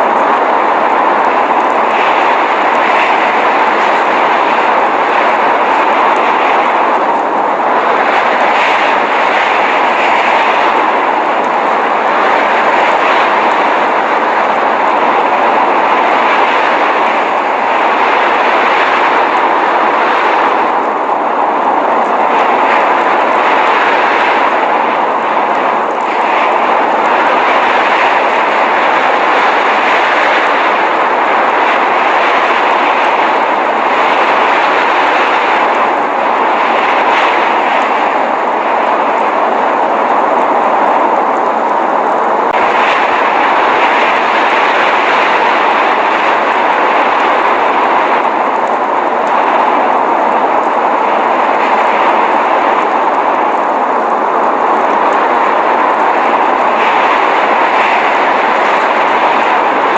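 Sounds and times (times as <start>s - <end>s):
blizzard wind rushing: 0.0s - 59.9s.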